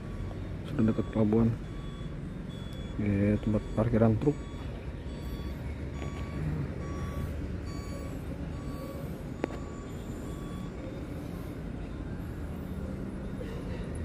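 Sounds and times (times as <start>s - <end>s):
reversing alarm beeping: 0.0s - 14.0s.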